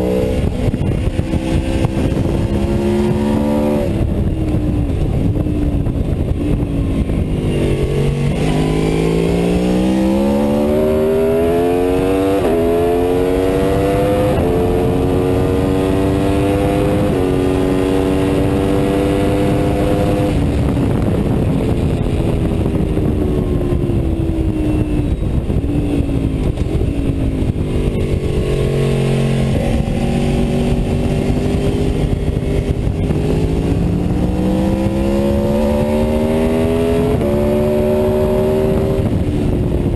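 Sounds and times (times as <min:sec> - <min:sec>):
motorcycle engine revving: 0:00.0 - 0:39.9
wind rush on the microphone: 0:00.0 - 0:39.9.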